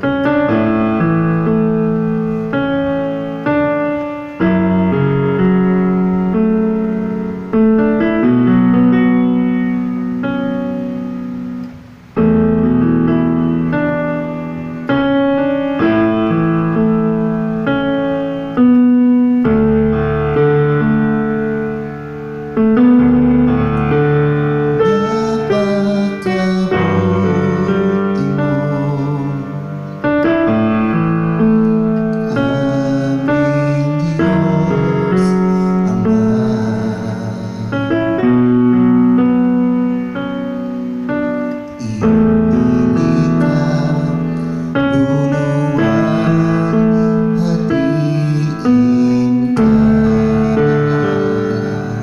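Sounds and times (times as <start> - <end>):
slow piano chords: 0.0 - 52.0.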